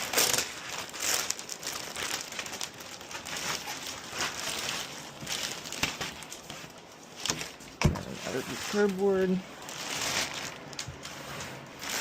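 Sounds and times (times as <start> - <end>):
cardboard rustling and scraping: 0.0 - 12.0.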